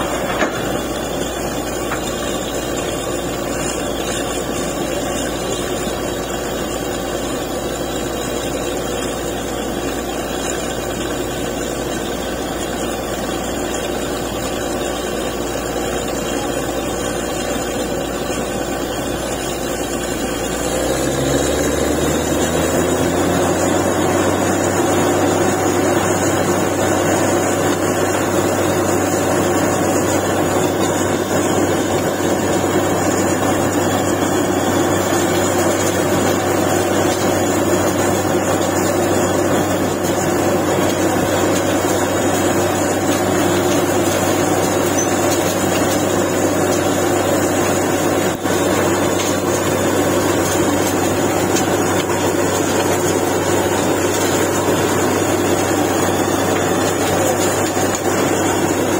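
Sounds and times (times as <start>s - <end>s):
air compressor working: 0.0s - 58.9s
diesel engine running: 0.0s - 58.9s.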